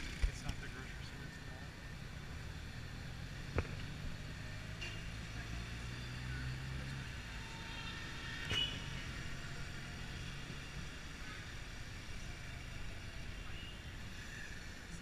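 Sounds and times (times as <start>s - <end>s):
road noise inside car: 0.0s - 15.0s.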